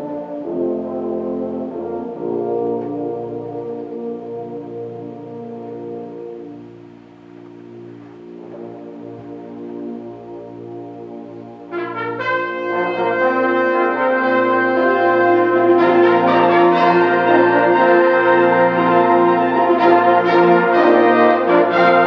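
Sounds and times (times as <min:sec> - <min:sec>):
brass section playing: 0:00.0 - 0:22.0
concert band playing: 0:00.0 - 0:22.0.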